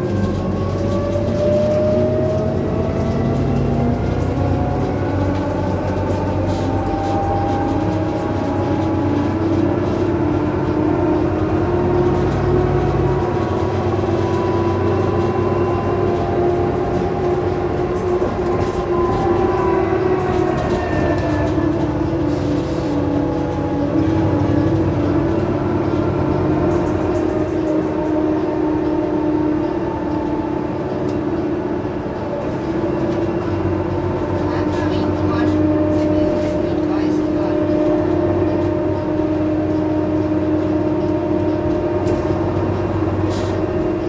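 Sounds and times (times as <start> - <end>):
bus engine drone: 0.0 - 44.0
whining drivetrain tones: 0.0 - 44.0.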